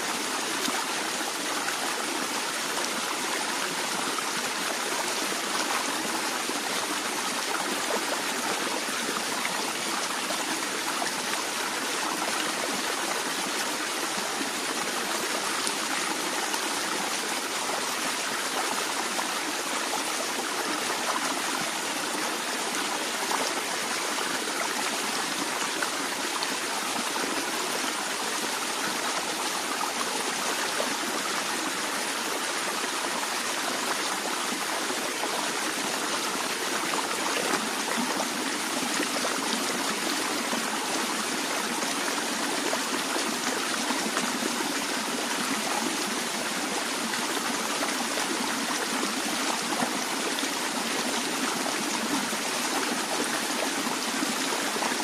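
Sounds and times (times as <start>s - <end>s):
stream of water flowing: 0.0s - 55.0s.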